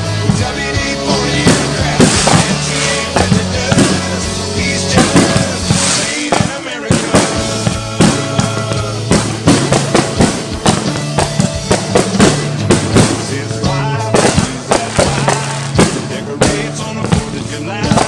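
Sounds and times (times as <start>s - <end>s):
fireworks bursting: 0.0s - 18.0s
music with drums and bass: 0.0s - 18.0s.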